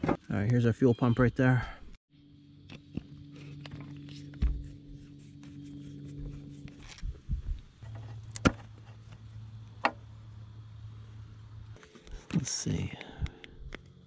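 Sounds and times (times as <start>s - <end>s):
steady low hum: 1.7s - 14.0s.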